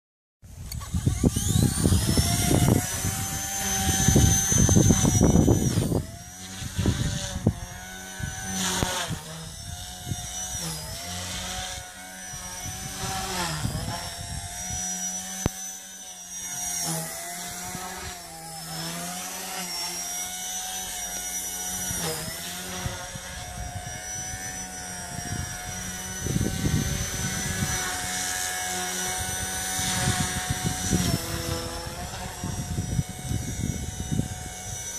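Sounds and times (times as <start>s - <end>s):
rc helicopter motor whine: 0.5s - 34.9s.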